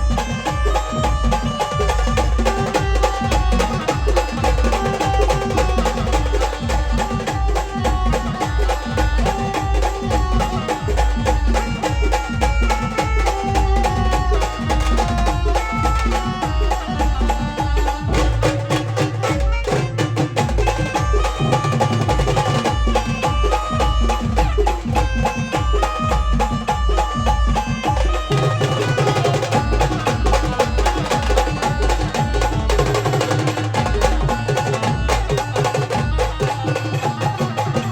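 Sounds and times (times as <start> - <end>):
heavy regular drum beat: 0.0 - 37.9
held melody notes: 0.0 - 37.9.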